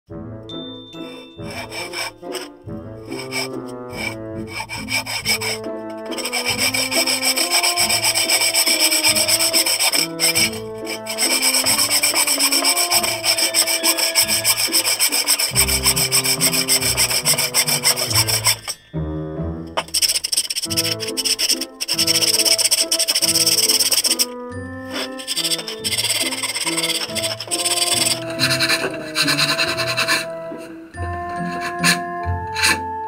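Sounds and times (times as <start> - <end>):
background music: 0.1 - 33.0
saw cutting wood: 1.0 - 18.9, 19.8 - 33.0.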